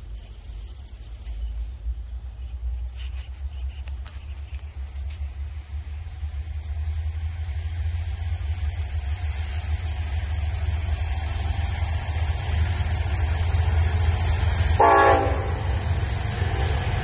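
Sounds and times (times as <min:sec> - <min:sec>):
diesel freight train rumble: 0:01.0 - 0:17.0.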